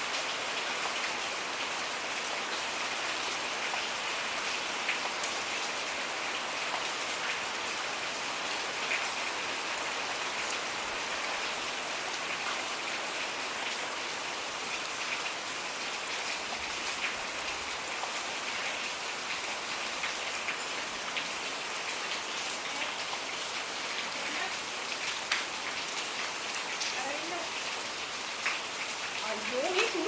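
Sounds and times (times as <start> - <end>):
rain drops ticking: 0.0 - 30.0.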